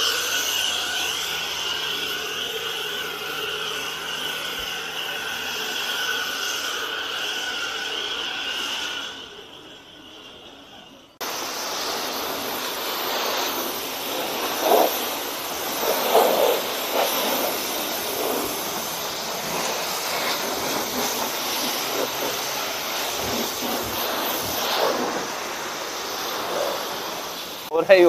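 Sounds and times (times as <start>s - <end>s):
pressure washer spraying water: 0.0s - 10.5s, 11.2s - 28.0s.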